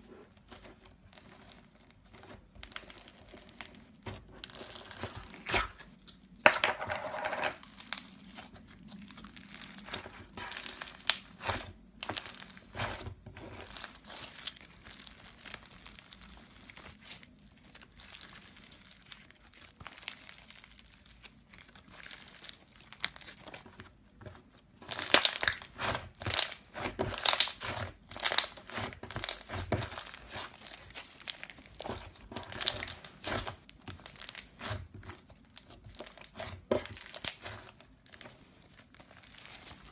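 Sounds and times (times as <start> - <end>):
slime crackling and popping: 0.4 - 6.6, 7.5 - 39.9.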